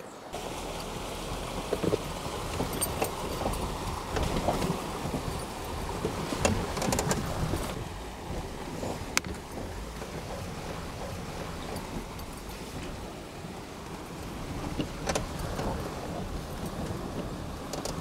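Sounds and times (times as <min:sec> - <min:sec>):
tyres splashing through water: 0:00.0 - 0:18.0.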